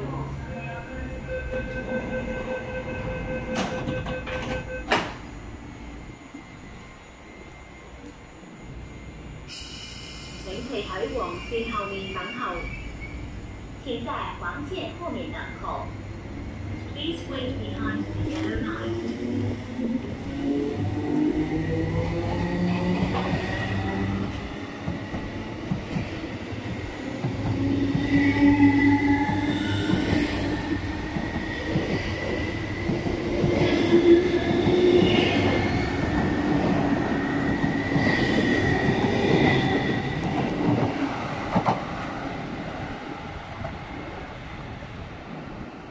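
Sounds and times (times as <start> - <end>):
high train whine: 0.0 - 45.9
train rumbling on rails: 0.0 - 45.9.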